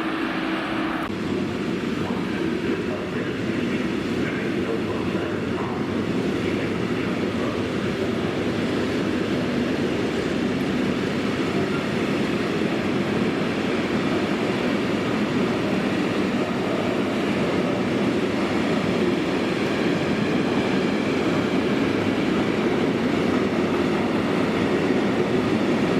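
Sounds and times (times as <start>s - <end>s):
train rumbling past: 0.0s - 25.9s.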